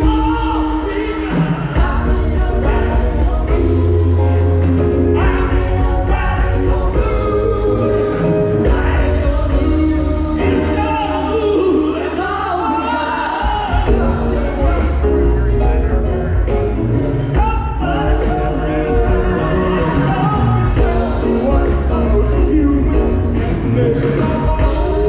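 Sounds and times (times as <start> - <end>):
band with keyboards: 0.0 - 25.0
bass line: 0.0 - 25.0
person singing: 0.0 - 25.0.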